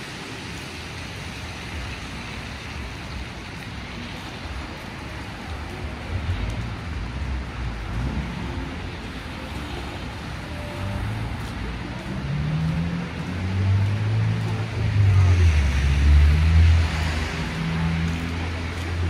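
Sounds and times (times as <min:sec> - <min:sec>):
traffic hiss: 0:00.0 - 0:19.0.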